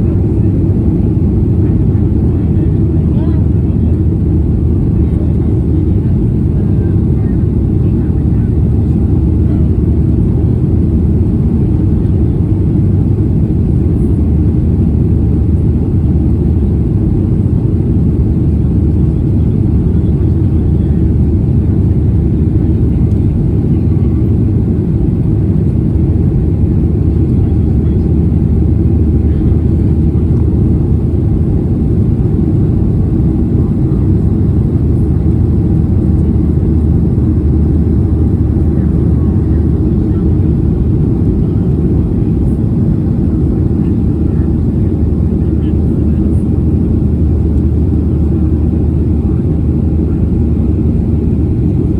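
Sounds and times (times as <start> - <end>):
jet engines and airflow rumble: 0.0 - 51.9.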